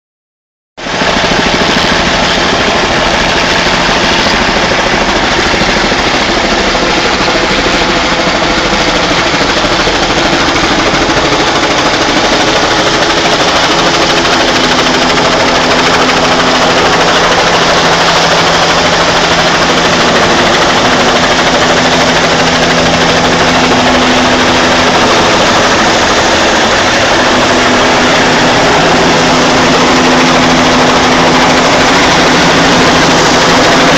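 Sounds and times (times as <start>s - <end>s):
helicopter turbine and rotor: 0.8s - 33.9s.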